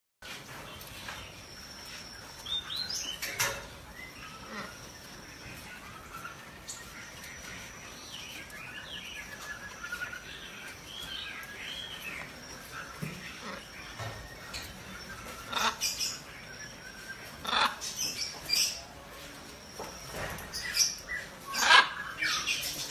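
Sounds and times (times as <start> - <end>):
birds chirping: 0.2 - 22.9.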